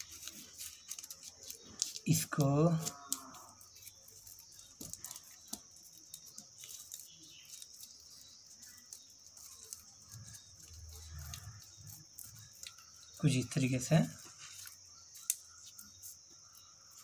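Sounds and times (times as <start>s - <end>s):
paper rustling and clicking: 0.0s - 17.0s.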